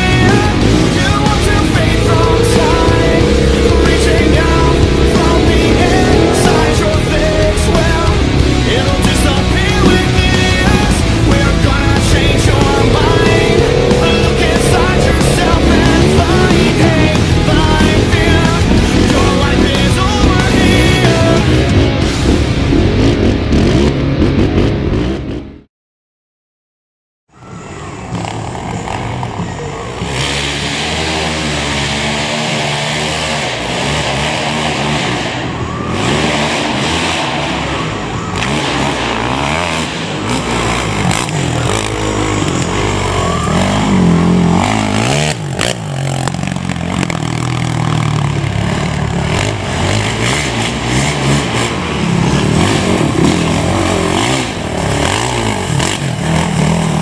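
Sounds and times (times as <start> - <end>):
quad engines revving: 0.0 - 25.5, 27.4 - 57.0.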